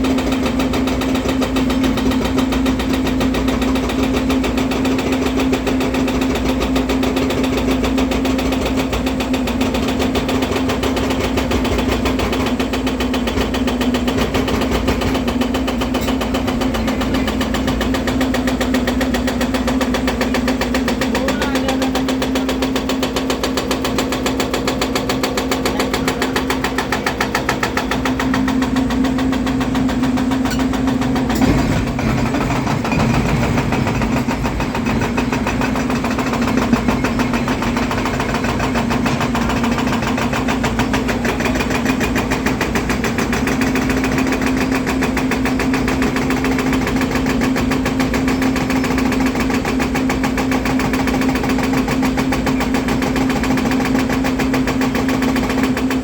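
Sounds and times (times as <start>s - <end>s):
excavator diesel engine droning: 0.0s - 56.0s.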